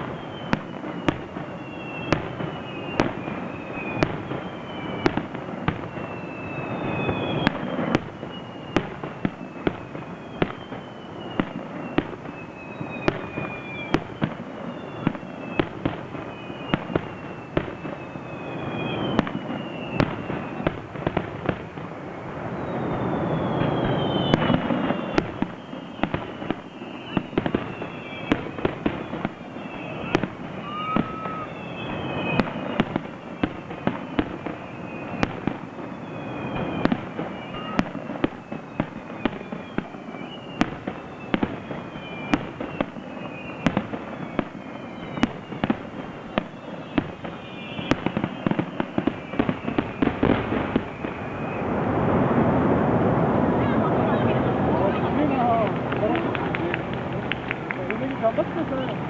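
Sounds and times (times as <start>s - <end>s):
fireworks whistles falling in pitch: 0.0s - 52.7s, 53.4s - 59.0s
fireworks bangs and crackles: 0.0s - 59.0s.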